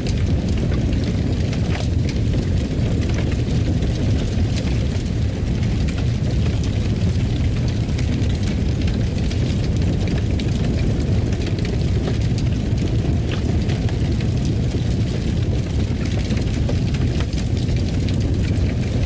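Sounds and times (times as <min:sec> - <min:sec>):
fire crackles and pops: 0:00.0 - 0:19.0
fireplace fire burning: 0:00.0 - 0:19.0.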